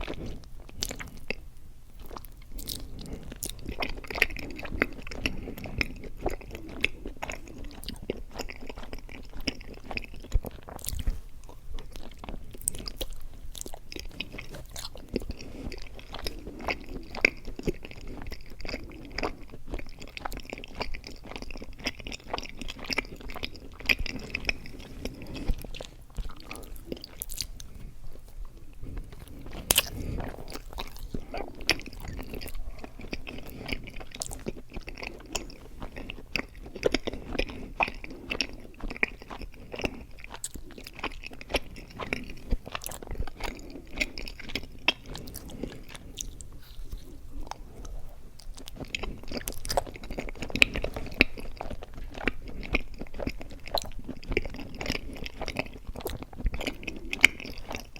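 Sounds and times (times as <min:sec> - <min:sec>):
wet sticky chewing: 0:00.0 - 0:57.9.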